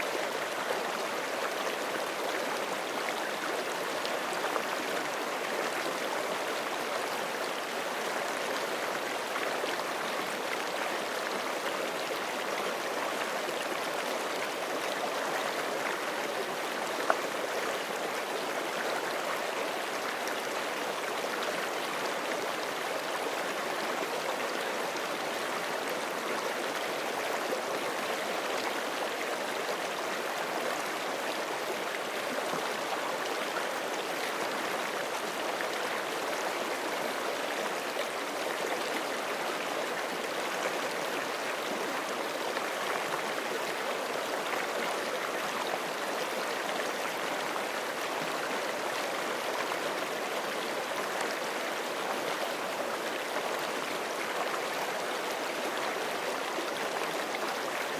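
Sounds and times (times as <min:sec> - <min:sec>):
creek flowing over rocks: 0:00.0 - 0:57.9.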